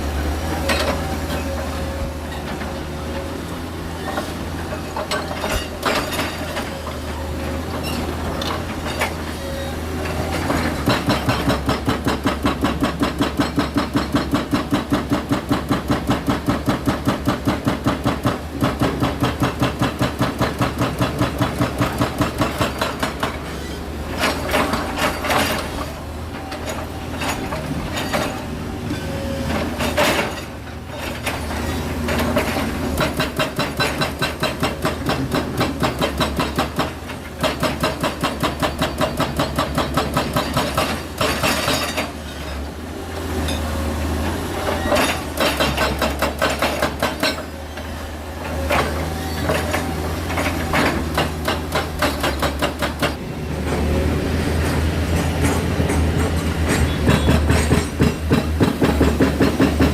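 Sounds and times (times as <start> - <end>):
heavy machinery clanking: 0.0 - 59.9.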